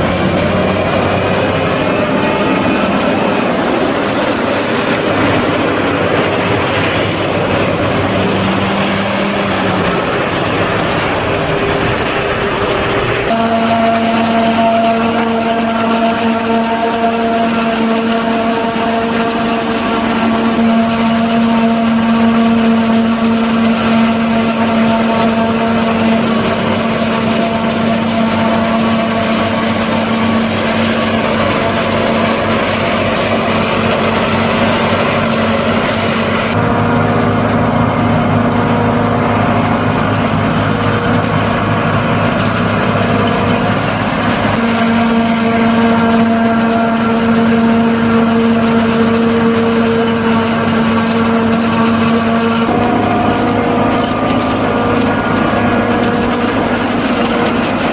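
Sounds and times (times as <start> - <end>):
forage harvester droning: 0.0 - 57.9.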